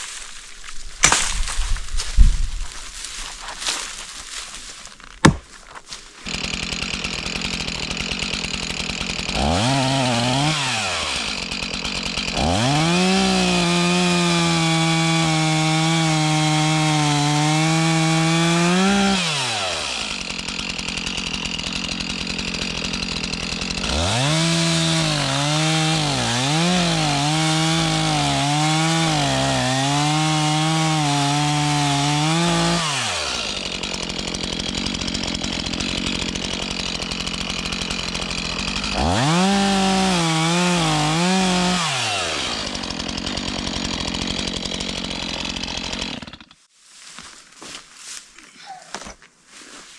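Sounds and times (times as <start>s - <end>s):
chainsaw idling and revving: 5.2s - 46.7s.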